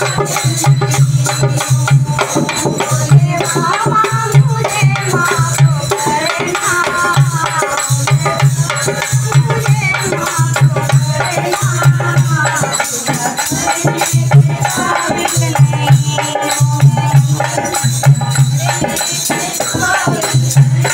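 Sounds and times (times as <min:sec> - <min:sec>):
hand drum beating: 0:00.0 - 0:20.9
women singing together: 0:00.0 - 0:20.9.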